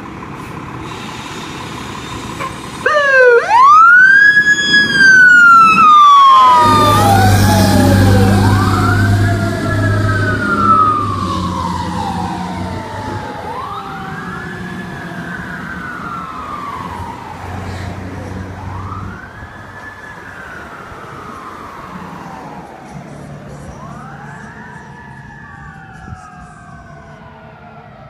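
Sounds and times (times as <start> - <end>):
fire engine siren wailing: 0.0 - 28.0.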